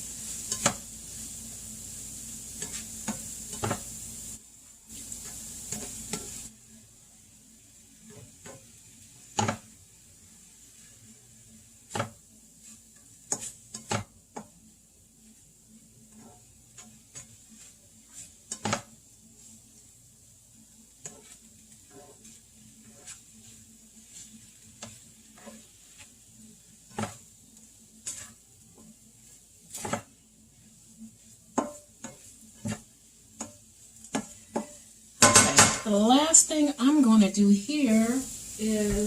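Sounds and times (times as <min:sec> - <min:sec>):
food sizzling in a frying pan: 0:00.0 - 0:39.0
utensil stirring and scraping pan: 0:00.0 - 0:39.0.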